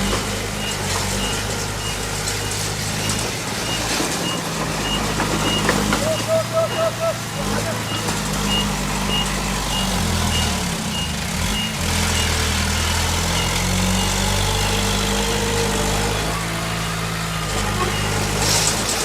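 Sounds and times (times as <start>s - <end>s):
reversing alarm beeping: 0.0s - 18.9s
heavy diesel machinery running: 0.0s - 19.0s.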